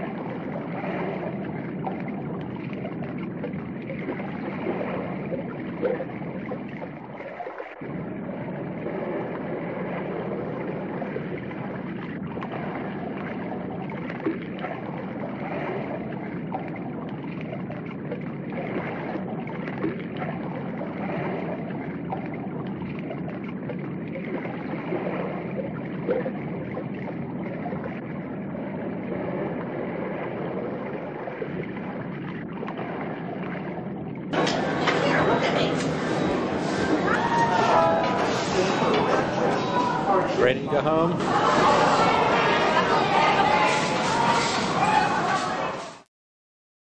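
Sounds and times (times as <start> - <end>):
rushing aquarium water: 0.0 - 46.1.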